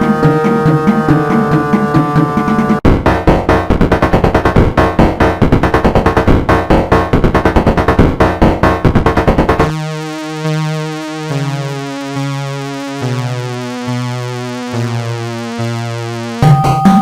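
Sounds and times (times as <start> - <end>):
sustained synth notes: 0.0 - 17.0.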